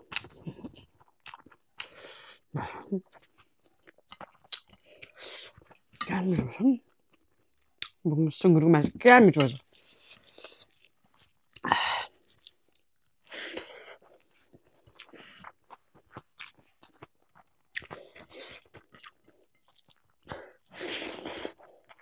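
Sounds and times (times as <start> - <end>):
person chewing food: 0.0 - 6.3, 6.9 - 8.0, 9.4 - 22.0.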